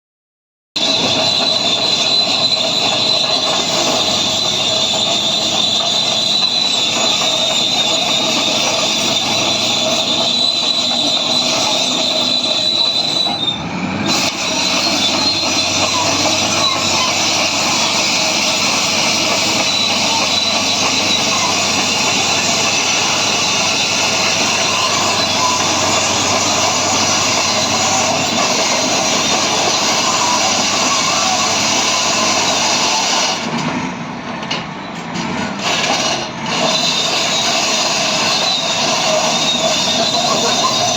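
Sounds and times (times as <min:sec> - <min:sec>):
high-pitched running gear squeal: 0:00.8 - 0:33.6, 0:35.6 - 0:40.9
bulldozer engine running: 0:00.8 - 0:40.9.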